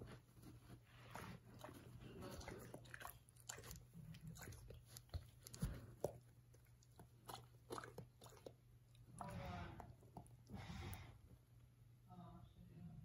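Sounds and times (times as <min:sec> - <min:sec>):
puppy chewing feather: 0:00.0 - 0:11.1.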